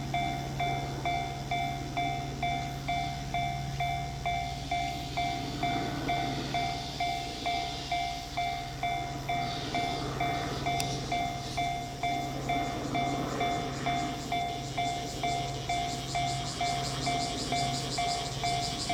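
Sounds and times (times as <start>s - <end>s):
train wheels rumbling past: 0.0s - 18.9s.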